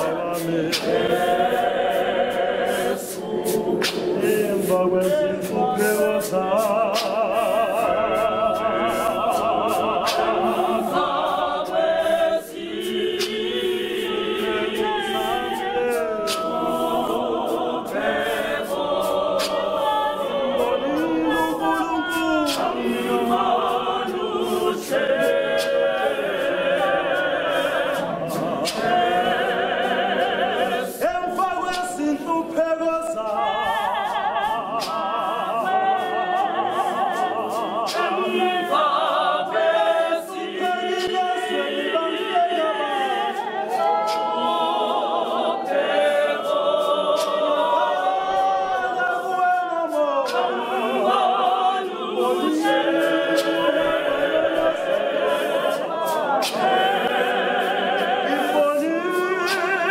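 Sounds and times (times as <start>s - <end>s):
women's choir singing unaccompanied: 0.0s - 59.9s.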